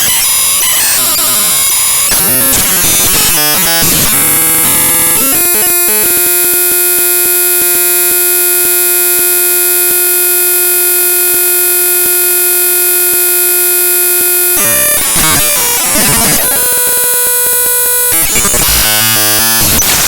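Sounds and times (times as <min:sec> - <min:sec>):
loud electronic buzz: 0:00.0 - 0:20.0.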